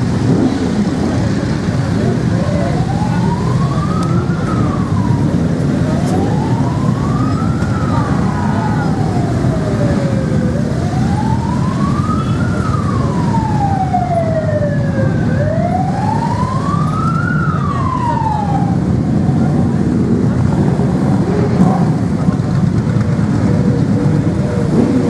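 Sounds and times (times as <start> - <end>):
motorcycle engines rumbling: 0.0 - 25.0
siren wailing: 0.8 - 21.9.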